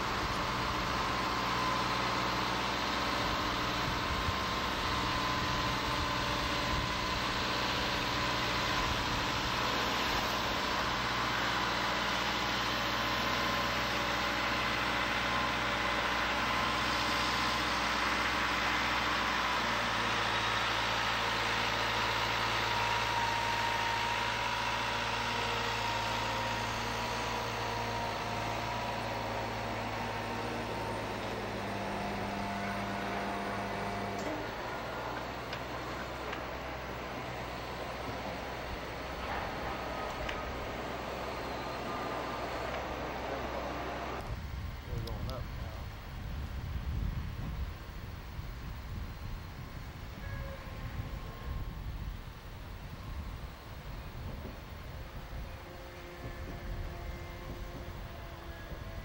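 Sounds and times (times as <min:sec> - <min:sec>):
faint steady whine: 0:00.0 - 0:59.0
truck engine idling: 0:00.0 - 0:59.0.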